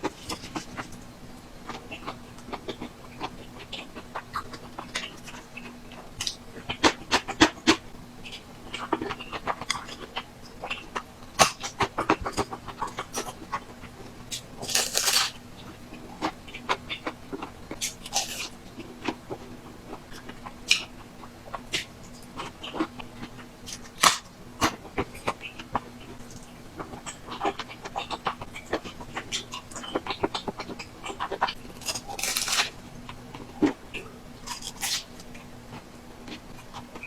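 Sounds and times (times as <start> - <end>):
person chewing food: 1.7 - 37.0.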